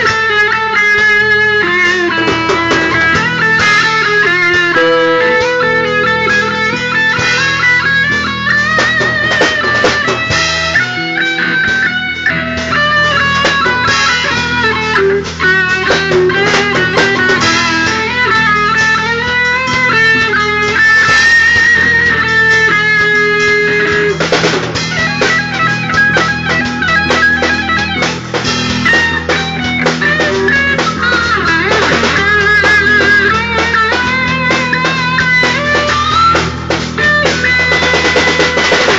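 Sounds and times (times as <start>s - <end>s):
bass guitar: 0.0s - 38.9s
drum kit: 0.0s - 38.9s
electric guitar melody: 0.0s - 38.9s.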